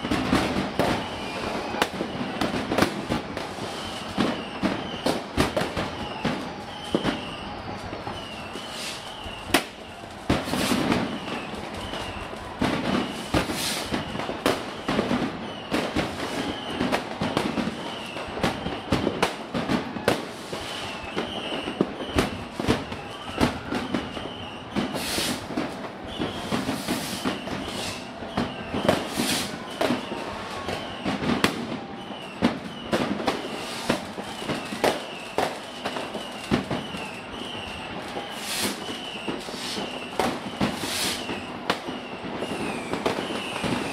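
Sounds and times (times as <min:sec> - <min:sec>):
firecrackers crackling: 0:00.0 - 0:43.9
fireworks bangs: 0:00.0 - 0:43.9.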